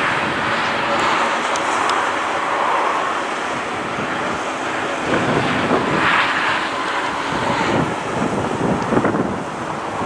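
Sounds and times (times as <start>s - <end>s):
jet engines rushing: 0.0s - 10.0s
wind on microphone: 0.0s - 10.0s.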